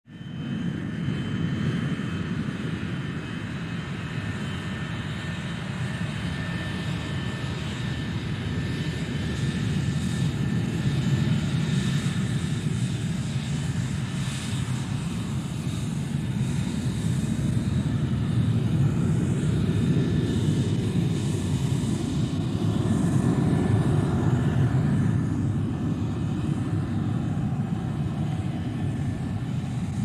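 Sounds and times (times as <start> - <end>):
aircraft engines rumbling: 0.1 - 30.0.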